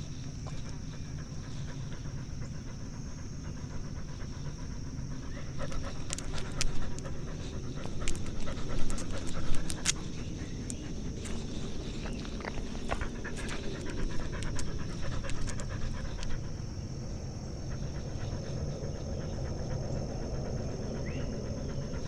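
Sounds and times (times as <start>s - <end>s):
dog panting heavily: 0.0s - 22.0s.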